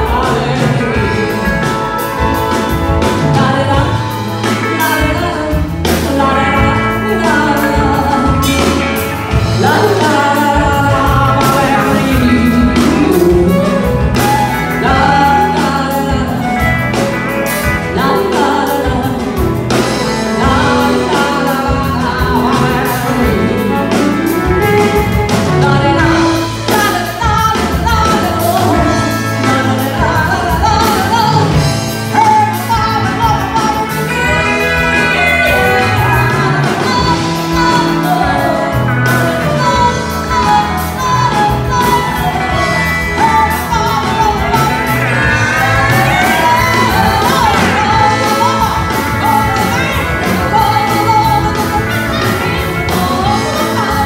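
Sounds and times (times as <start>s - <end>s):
live rock band playing: 0.0s - 54.0s
woman singing: 0.0s - 54.0s.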